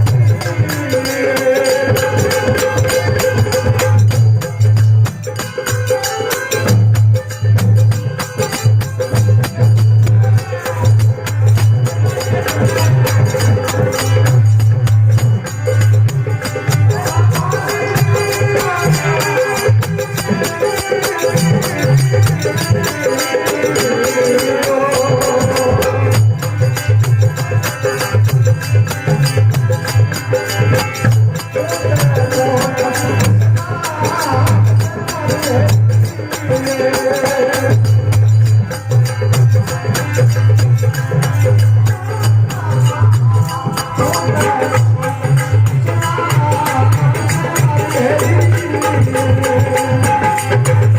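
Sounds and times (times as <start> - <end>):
hand drum rhythm: 0.0 - 50.9
man singing devotional song: 0.0 - 50.9.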